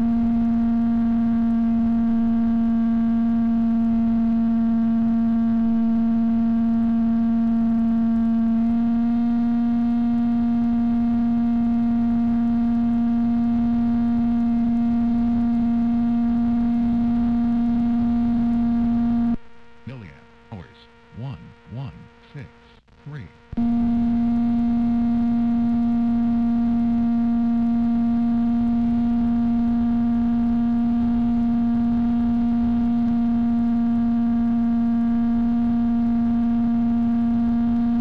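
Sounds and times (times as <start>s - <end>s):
model airplane motor buzzing: 0.0s - 19.4s, 23.6s - 38.0s.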